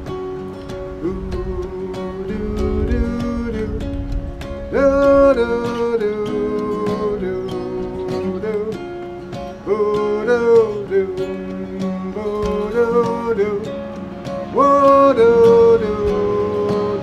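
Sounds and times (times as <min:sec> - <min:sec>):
acoustic guitar playing chords: 0:00.0 - 0:17.0.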